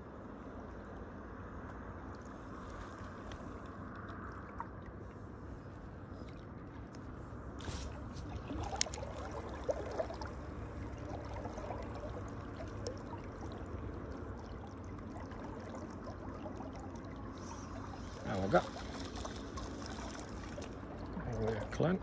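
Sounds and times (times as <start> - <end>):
river water trickling: 0.0 - 22.0.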